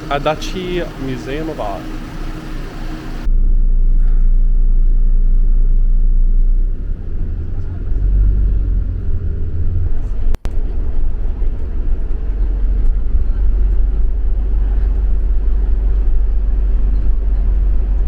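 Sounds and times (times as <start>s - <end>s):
bus engine and road rumble: 0.0s - 18.0s
hum: 0.0s - 18.0s.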